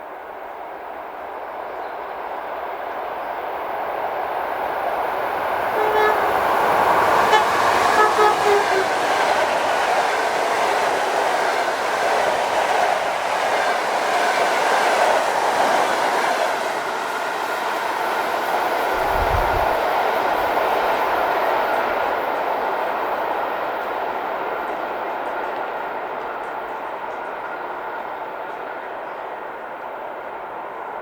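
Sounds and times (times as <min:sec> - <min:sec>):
train wheels rolling on rails: 0:00.1 - 0:31.0.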